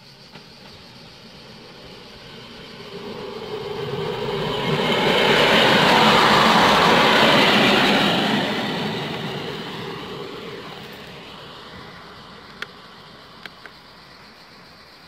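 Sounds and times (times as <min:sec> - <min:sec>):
train rumbling away: 0:00.0 - 0:15.0.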